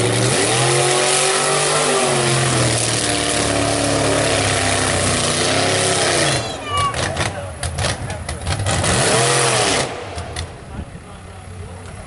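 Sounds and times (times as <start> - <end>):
truck engine revving hard: 0.0 - 10.6.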